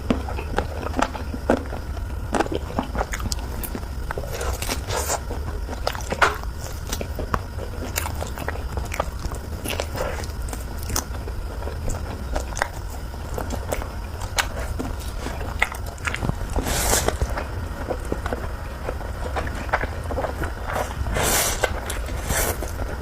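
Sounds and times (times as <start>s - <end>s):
steady low hum: 0.0s - 23.0s
wet chewing: 0.0s - 23.0s.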